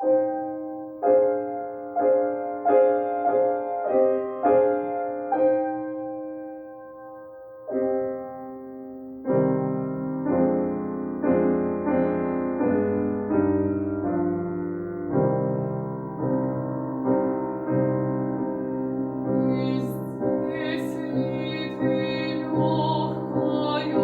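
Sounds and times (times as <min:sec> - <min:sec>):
gentle piano chords: 0:00.0 - 0:24.0.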